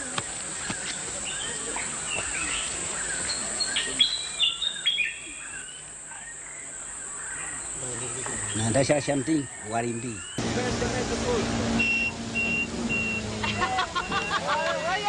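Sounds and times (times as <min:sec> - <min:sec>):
birds whistling calls: 0:00.2 - 0:10.4, 0:11.8 - 0:14.5.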